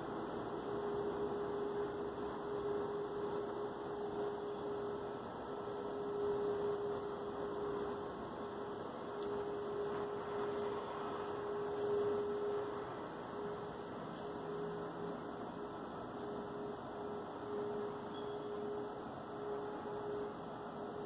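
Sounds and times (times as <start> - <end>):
background hiss: 0.0 - 21.0
steady hum: 0.0 - 21.0.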